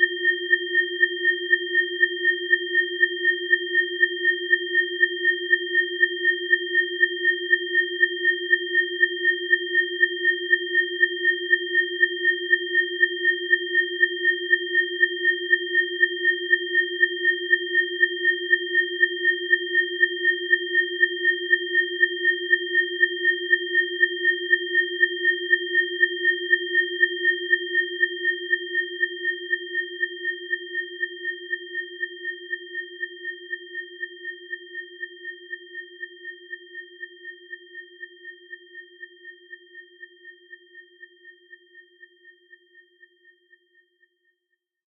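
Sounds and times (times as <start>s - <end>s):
low steady sine tone: 0.0s - 44.1s.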